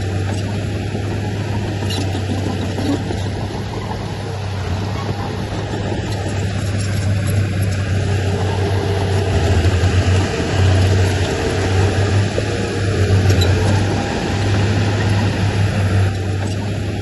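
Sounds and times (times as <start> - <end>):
heavy diesel engine humming: 0.0 - 17.0.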